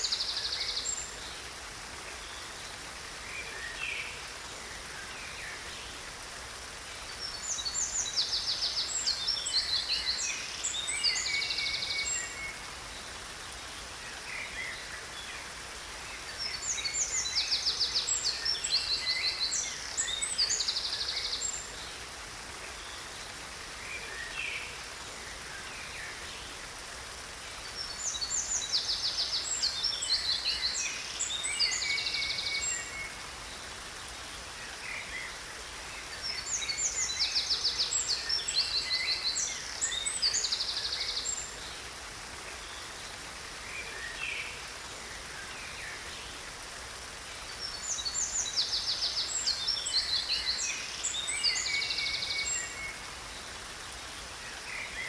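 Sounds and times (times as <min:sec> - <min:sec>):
falling water rushing: 0:00.0 - 0:55.0
songbirds trilling and chirping: 0:00.0 - 0:55.0.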